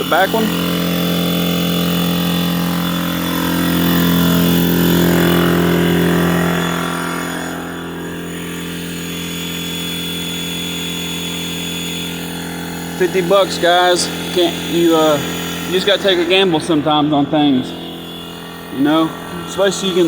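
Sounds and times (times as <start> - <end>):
air compressor motor running: 0.0 - 20.0.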